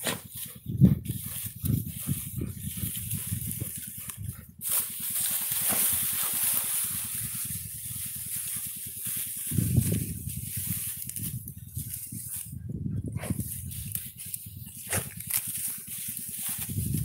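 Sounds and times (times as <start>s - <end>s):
dogs sniffing: 0.0s - 11.1s, 11.7s - 17.0s
dry stalks rustling: 0.0s - 17.0s.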